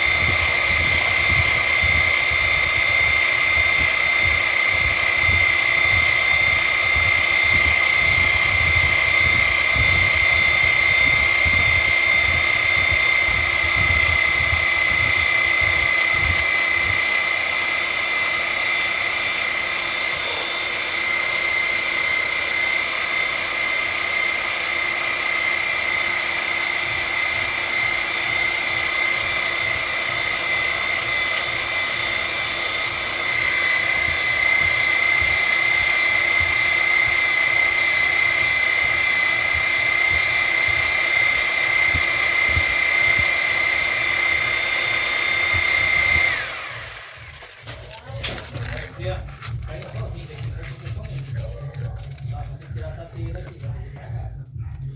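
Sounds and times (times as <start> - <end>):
machine motor whining: 0.0 - 54.9.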